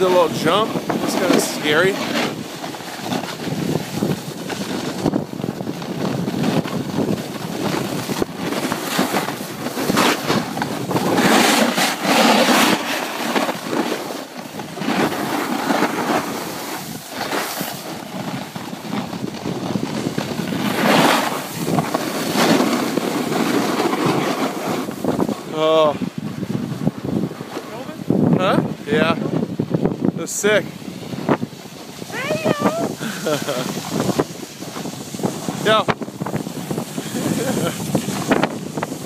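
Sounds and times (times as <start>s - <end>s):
wind buffeting microphone: 0.0s - 12.9s, 13.5s - 39.0s
snowboard scraping over snow: 0.0s - 39.0s.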